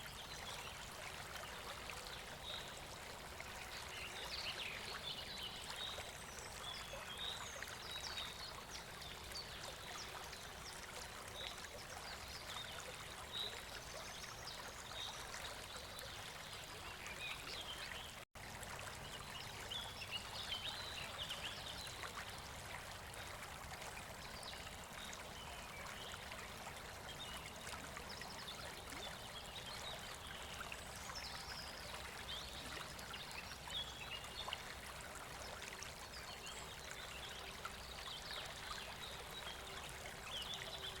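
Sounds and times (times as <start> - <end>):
river water flowing: 0.0 - 41.0.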